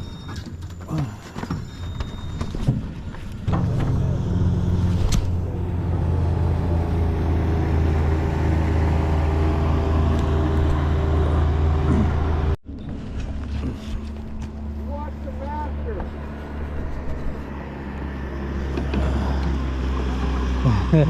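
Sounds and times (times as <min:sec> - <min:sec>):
outboard boat motor running: 0:02.9 - 0:21.0.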